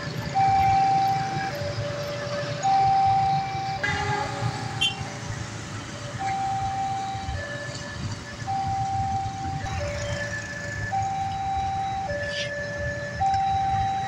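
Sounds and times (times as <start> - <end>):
two-tone crossing alarm: 0.0 - 5.4, 6.0 - 14.0
idling motorcycle and car engines: 0.0 - 14.0.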